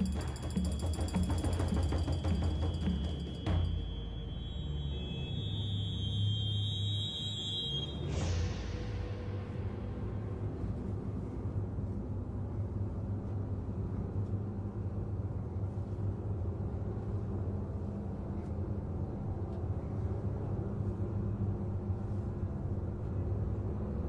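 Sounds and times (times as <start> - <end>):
low rumbling drone: 0.0 - 24.0.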